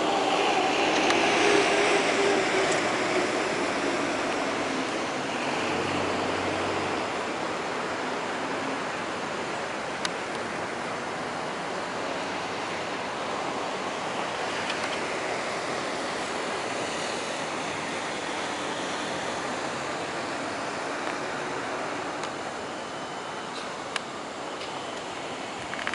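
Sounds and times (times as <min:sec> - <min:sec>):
outdoor noise: 0:00.0 - 0:25.9.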